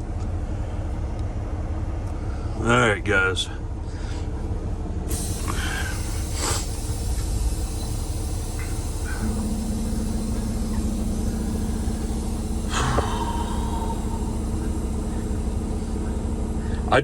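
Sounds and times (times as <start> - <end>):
diesel truck engine rumble: 0.0 - 17.0
steady hum: 0.0 - 17.0.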